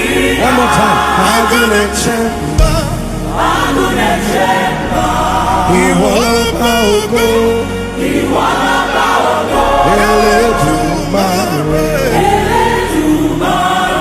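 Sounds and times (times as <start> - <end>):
band accompaniment: 0.0 - 13.7
choir singing gospel song: 0.0 - 14.0.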